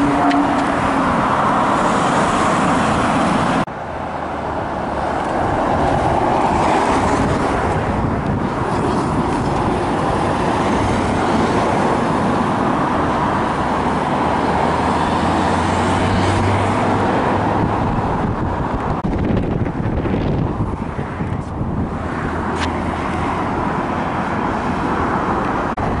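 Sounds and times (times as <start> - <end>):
cars driving by: 0.0 - 26.0.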